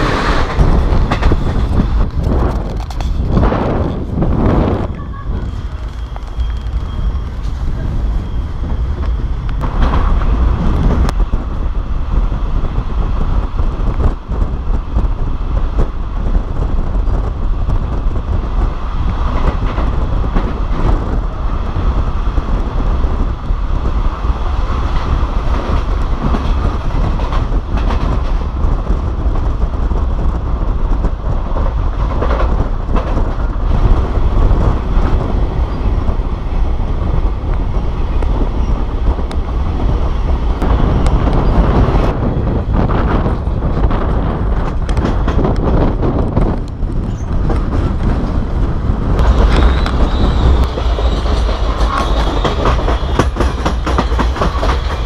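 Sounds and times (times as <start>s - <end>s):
train wheels and wind rushing: 0.0s - 55.0s.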